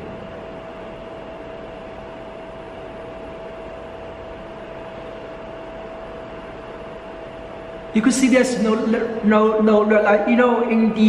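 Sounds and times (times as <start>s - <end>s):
cooling fan hiss and whine: 0.0s - 11.0s.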